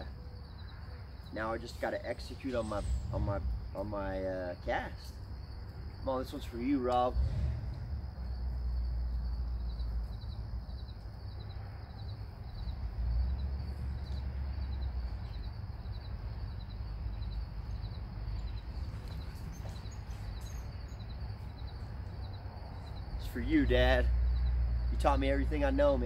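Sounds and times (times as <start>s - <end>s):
continuous low rumble: 0.0s - 26.0s
crickets chirping: 0.0s - 26.0s.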